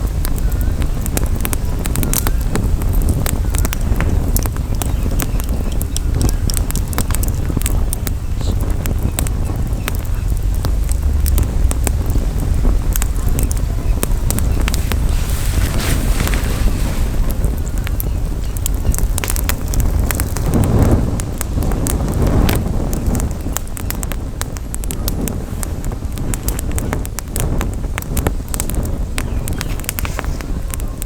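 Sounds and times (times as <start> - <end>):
campfire burning: 0.0 - 31.0
faint fire crackles: 0.0 - 31.0
wind buffeting microphone: 0.0 - 31.0.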